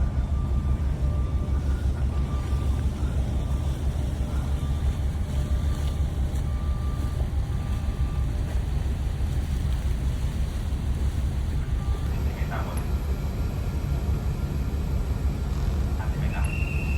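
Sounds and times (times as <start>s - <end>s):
ship engines rumbling: 0.0s - 16.9s.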